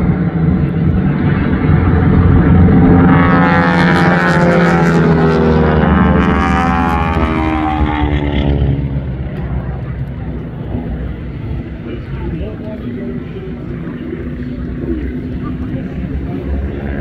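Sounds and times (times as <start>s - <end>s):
propeller plane engine passing: 0.0s - 17.0s.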